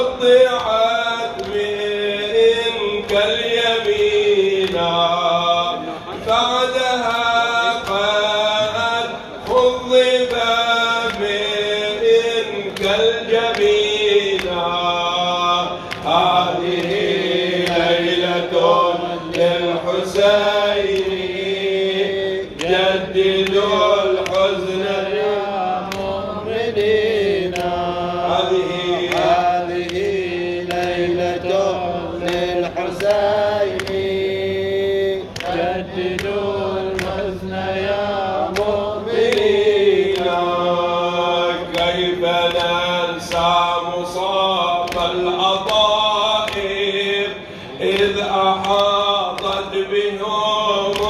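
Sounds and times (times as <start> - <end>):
man chanting into microphone: 0.0 - 51.0.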